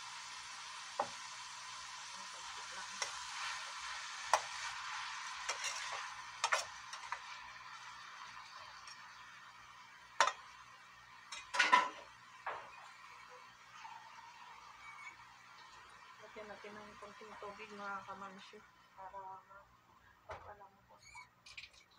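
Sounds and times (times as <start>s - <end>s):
food sizzling in a pan: 0.0s - 19.3s.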